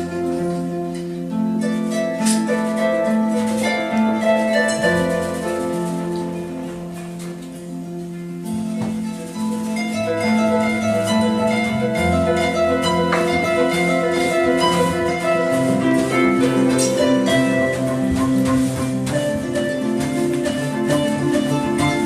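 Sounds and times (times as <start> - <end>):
electric harp playing: 0.0 - 22.0.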